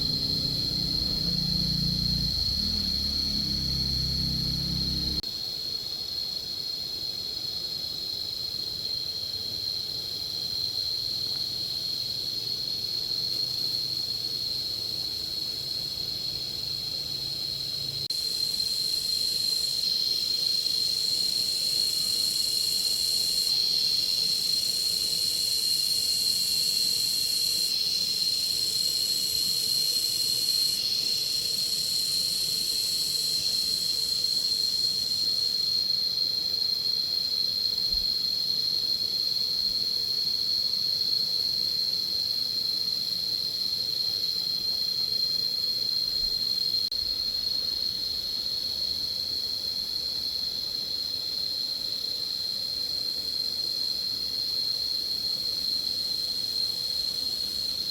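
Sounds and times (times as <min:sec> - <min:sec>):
high-pitched insect chorus: 0:00.0 - 0:57.9.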